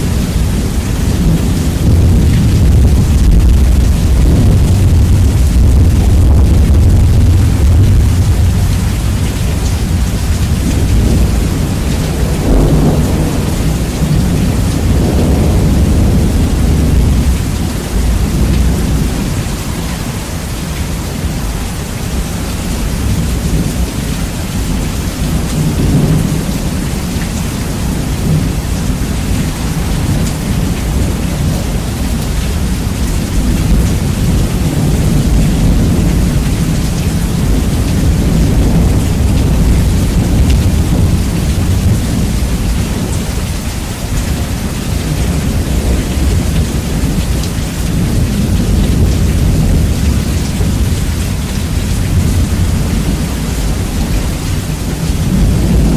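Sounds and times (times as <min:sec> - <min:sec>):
deep rolling thunder: 0:00.0 - 0:55.9
heavy rain hiss: 0:00.0 - 0:55.9.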